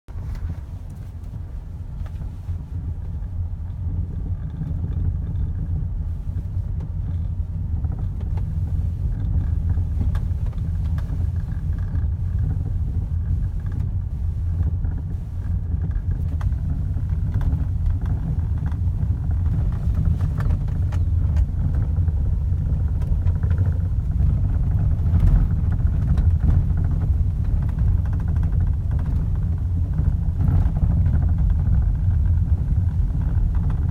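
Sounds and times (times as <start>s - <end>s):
steering rack low rumble: 0.0s - 33.9s.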